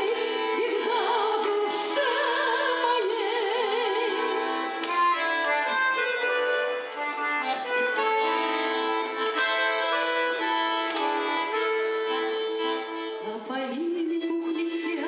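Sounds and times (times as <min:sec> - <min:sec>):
reedy accordion-like melody: 0:00.0 - 0:15.0.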